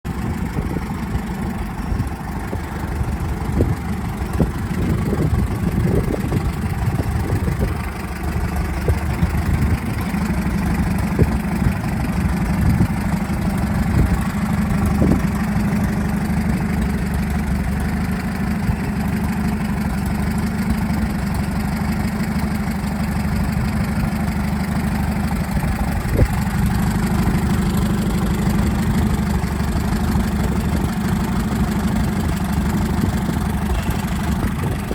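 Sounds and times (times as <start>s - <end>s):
bulldozer engine idling: 0.0s - 34.9s.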